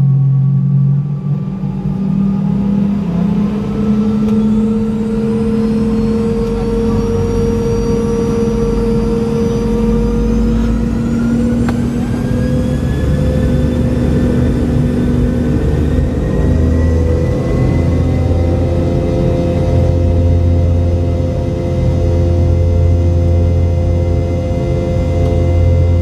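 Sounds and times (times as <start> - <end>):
jet engines spooling up: 0.2 - 26.0
wheels rumbling on runway: 1.2 - 26.0.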